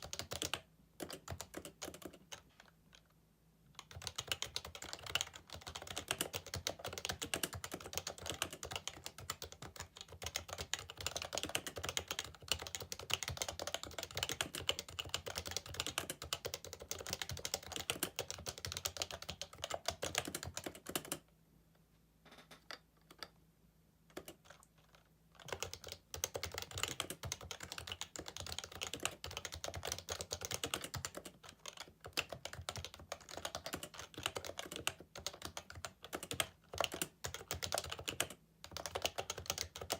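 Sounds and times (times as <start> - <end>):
fast typing on keyboard: 0.0 - 3.0, 3.8 - 21.2, 24.1 - 24.7, 25.4 - 39.9.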